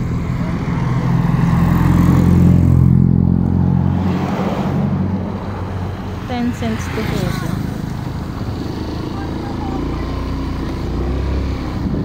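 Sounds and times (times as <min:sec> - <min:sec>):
scooter engine hum: 0:00.0 - 0:03.9, 0:05.1 - 0:12.0
passing vehicle: 0:00.0 - 0:12.0
road noise: 0:00.0 - 0:12.0.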